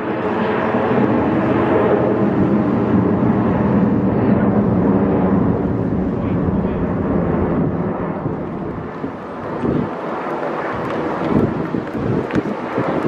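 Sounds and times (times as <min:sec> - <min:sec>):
jet engines rumbling overhead: 0:00.0 - 0:13.0.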